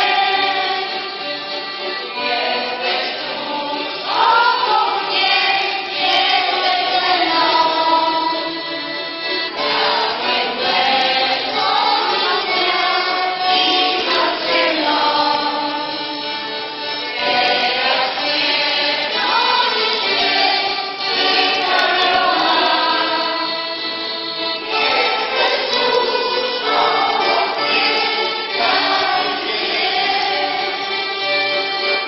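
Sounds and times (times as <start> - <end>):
women singing together: 0.0 - 8.8, 9.5 - 16.2, 17.0 - 23.7, 24.7 - 32.0.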